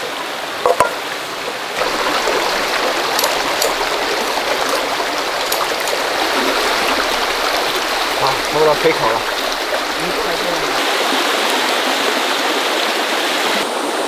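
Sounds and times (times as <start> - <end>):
creek babbling over stones: 0.0 - 14.0.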